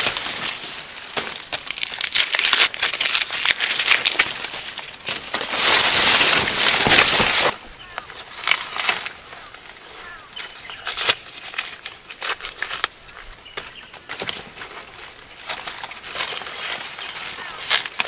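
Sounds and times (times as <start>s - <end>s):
dry corn leaves rustling: 0.0s - 18.0s.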